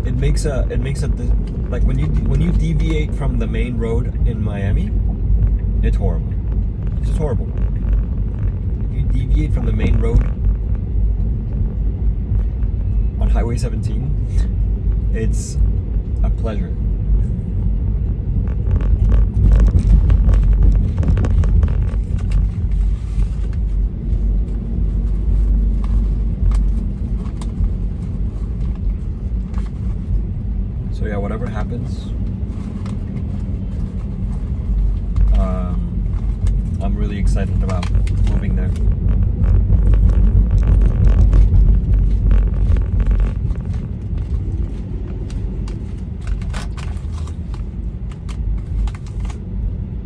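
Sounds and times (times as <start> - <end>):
car cabin road noise: 0.0 - 50.0.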